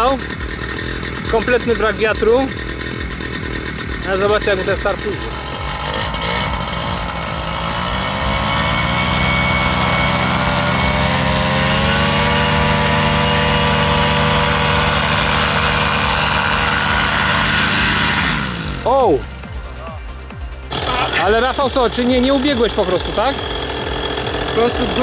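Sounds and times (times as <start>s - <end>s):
paramotor engine and propeller: 0.0s - 25.0s.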